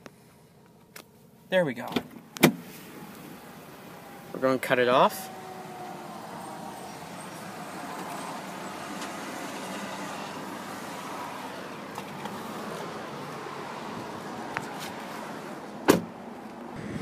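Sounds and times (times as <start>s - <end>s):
vehicle running noise: 0.1s - 17.0s.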